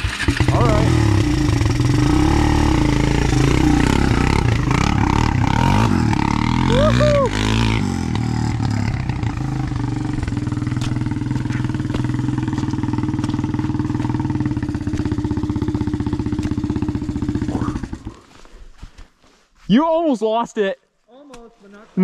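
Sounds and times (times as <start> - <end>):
quad engine running: 0.0 - 18.4.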